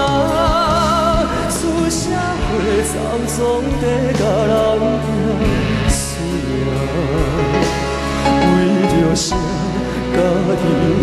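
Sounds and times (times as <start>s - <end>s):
band playing: 0.0s - 11.0s
man singing with vibrato: 0.0s - 11.0s.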